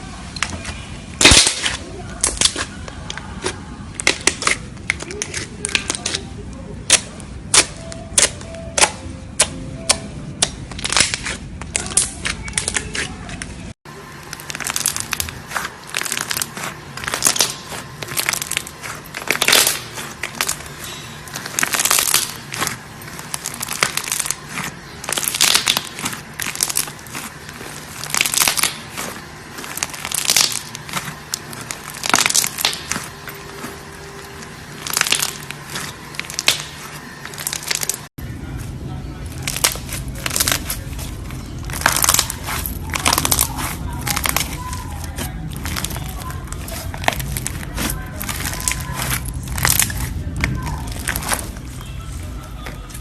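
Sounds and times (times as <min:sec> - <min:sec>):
crunchy crackles of clay: 0:00.4 - 0:53.0.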